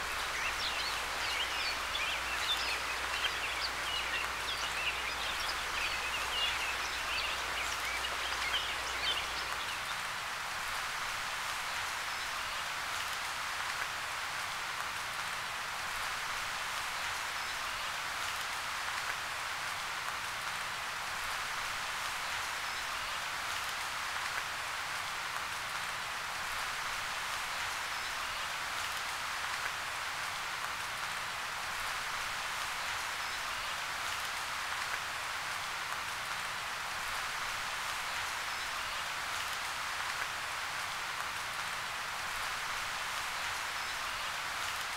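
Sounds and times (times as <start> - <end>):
rain-like outdoor hiss: 0.0 - 44.9.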